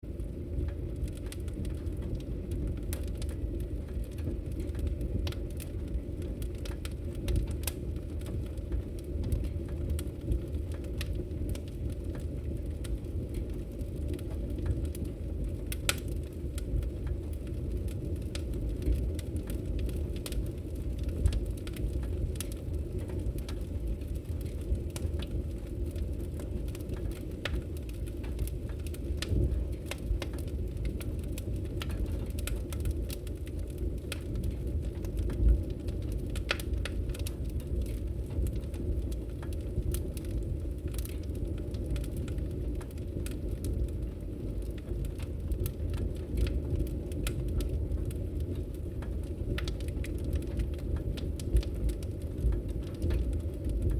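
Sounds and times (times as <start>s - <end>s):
low rush of fire: 0.0s - 53.9s
wood fire crackling and popping: 0.0s - 53.9s.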